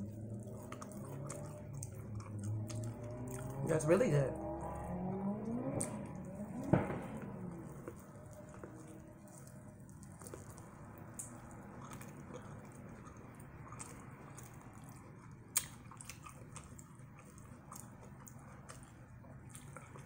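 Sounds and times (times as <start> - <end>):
chewing crunchy fried food: 0.0 - 4.7, 5.8 - 20.0.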